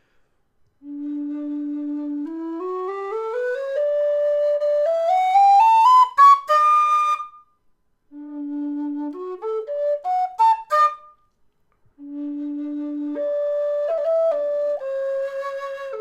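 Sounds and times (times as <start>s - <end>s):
low whistle playing scales: 0.8s - 11.4s, 12.0s - 16.0s.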